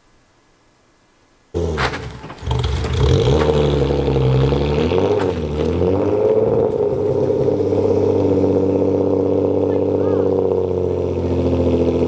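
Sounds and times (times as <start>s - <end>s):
car engine running: 1.6s - 12.0s.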